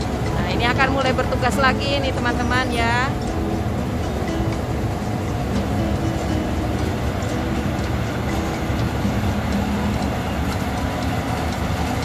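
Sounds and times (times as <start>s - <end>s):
diesel engine humming: 0.0s - 12.0s
light ticking: 0.0s - 12.0s.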